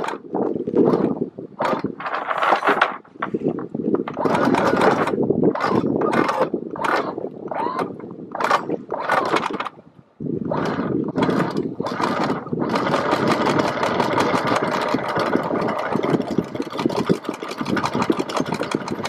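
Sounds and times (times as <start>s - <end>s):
anchor windlass hauling chain: 0.0s - 19.0s.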